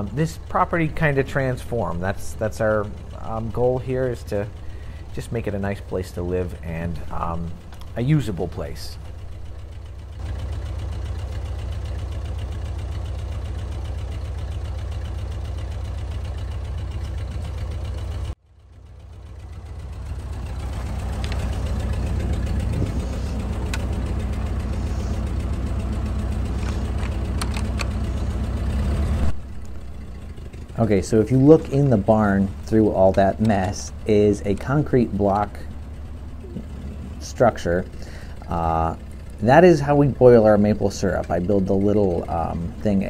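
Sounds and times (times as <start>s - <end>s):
tractor engine rumbling: 0.0s - 43.0s.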